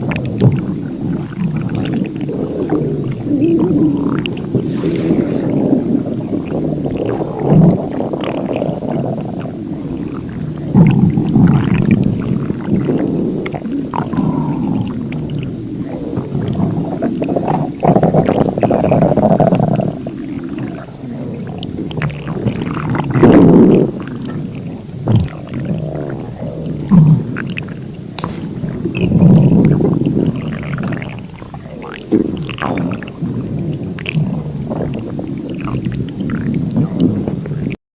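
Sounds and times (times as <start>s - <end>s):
stomach growling and gurgling: 0.0s - 37.8s.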